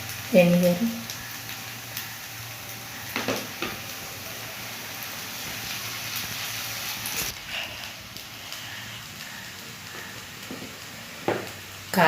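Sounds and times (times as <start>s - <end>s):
rice sizzling in a hot pan: 0.0s - 12.0s.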